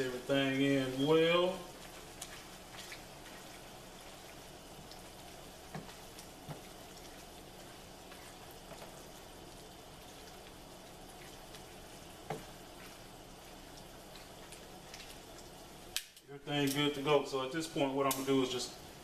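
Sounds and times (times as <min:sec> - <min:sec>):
food sizzling in a skillet: 0:00.0 - 0:19.0.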